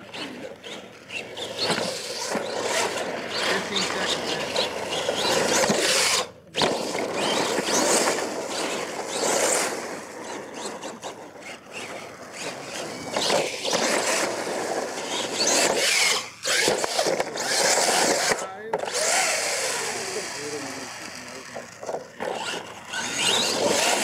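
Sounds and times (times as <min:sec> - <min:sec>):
toy truck motor whining: 0:00.0 - 0:24.0
tyres scraping through dirt: 0:00.0 - 0:24.0
toy truck tumbling over: 0:00.7 - 0:24.0.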